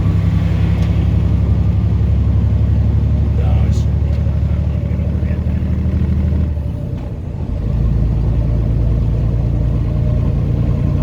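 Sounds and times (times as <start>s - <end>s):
truck engine humming: 0.0s - 11.0s.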